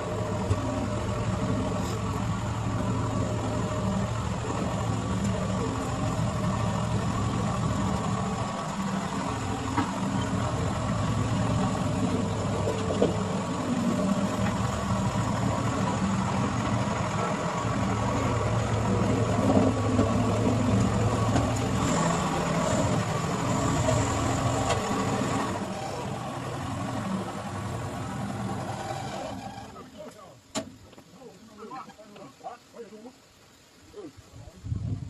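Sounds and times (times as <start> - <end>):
car engine running: 0.0 - 30.1.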